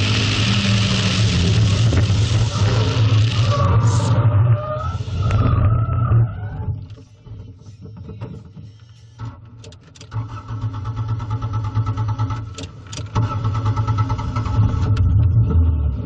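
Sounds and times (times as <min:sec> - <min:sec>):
car engine starting and running: 0:00.0 - 0:16.0.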